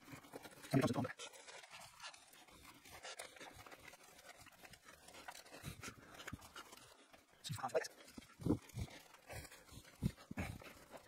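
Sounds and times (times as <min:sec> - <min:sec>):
velcro sleeve rustling: 0:00.0 - 0:11.0.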